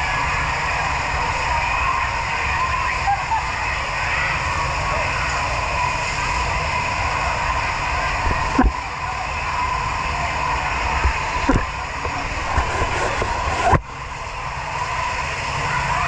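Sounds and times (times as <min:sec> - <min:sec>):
hoses spraying water: 0:00.0 - 0:16.0
voices: 0:00.0 - 0:16.0.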